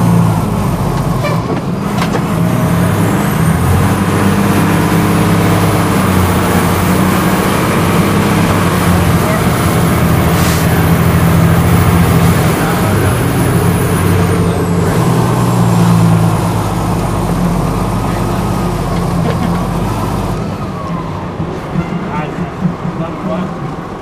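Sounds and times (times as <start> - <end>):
truck engine drone from cab: 0.0 - 24.0.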